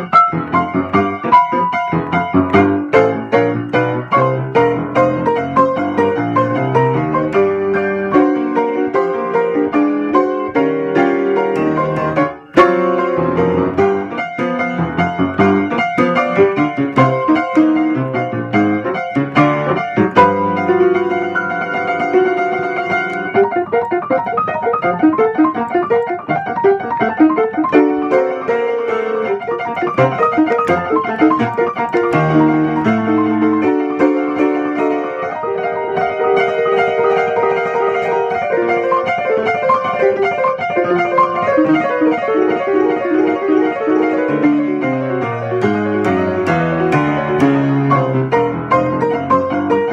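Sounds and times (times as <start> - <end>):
funky rhythmic piano: 0.0 - 49.9.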